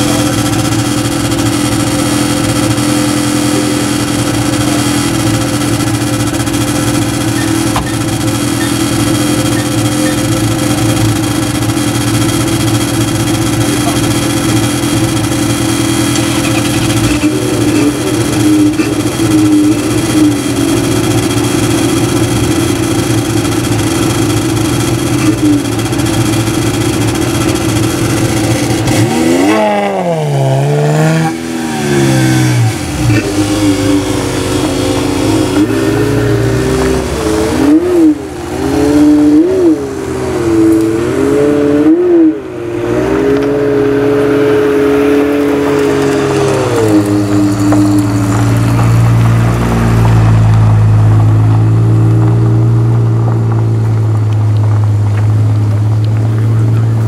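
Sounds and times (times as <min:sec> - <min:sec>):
car engine revving: 0:00.0 - 0:57.0
sports car engines idling: 0:00.0 - 0:57.0.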